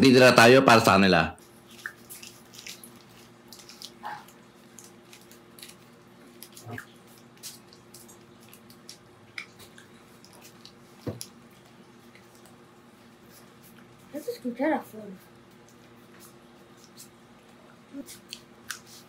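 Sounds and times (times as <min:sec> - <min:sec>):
faint steady hum: 0:00.0 - 0:19.0
wet chewing and smacking: 0:01.4 - 0:14.0, 0:15.4 - 0:19.0.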